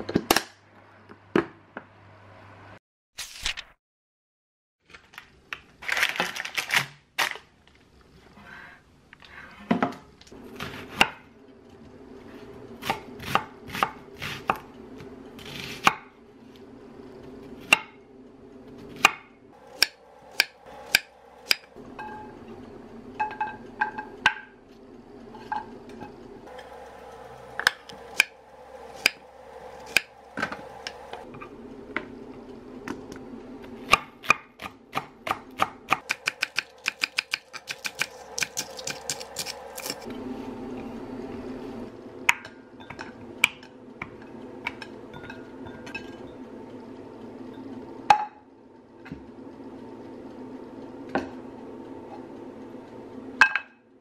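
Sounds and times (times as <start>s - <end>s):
steady low hum: 10.4s - 54.0s.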